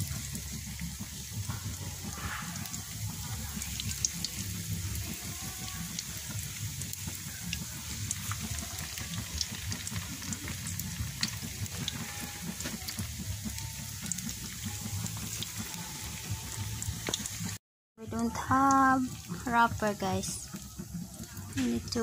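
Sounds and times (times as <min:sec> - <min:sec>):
oil crackles and pops: 0:00.0 - 0:17.6, 0:18.2 - 0:22.0
food deep-frying in hot oil: 0:00.0 - 0:22.0.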